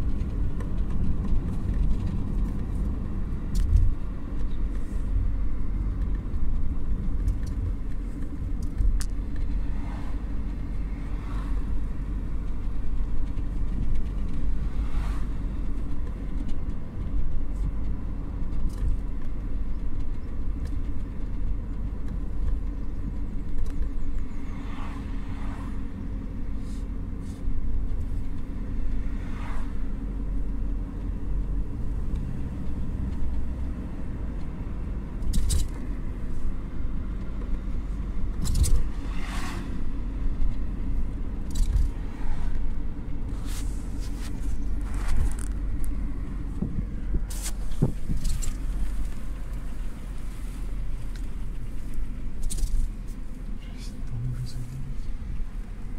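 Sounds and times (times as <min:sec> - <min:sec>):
car road and engine rumble: 0:00.0 - 0:55.9.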